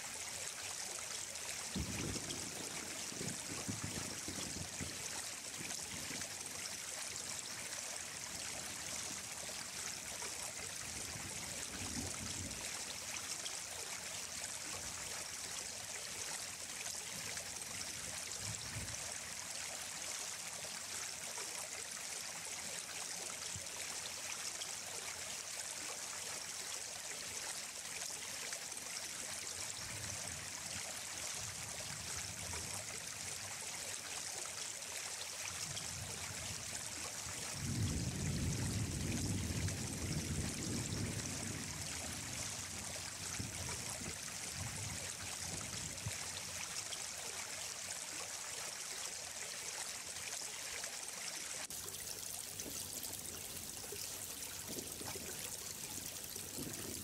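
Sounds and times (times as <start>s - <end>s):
running water flowing: 0.0s - 57.0s.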